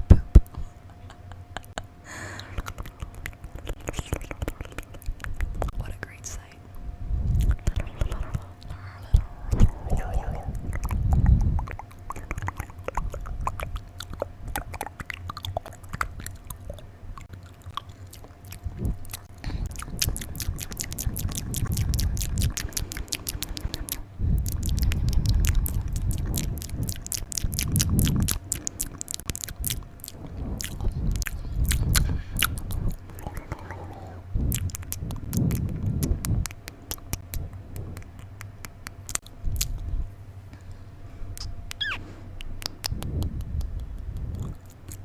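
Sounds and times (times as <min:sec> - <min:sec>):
low rumbles: 0:00.0 - 0:45.0
wet mouth clicks and smacks: 0:01.2 - 0:06.5, 0:07.3 - 0:40.6, 0:41.3 - 0:45.0.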